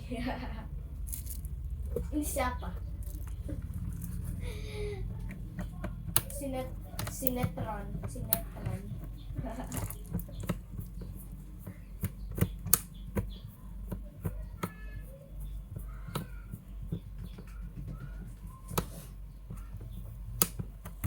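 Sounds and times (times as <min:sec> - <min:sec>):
steady low hum: 0:00.0 - 0:21.0
small tools clicking and tapping: 0:01.0 - 0:04.3, 0:05.0 - 0:15.1, 0:15.7 - 0:21.0.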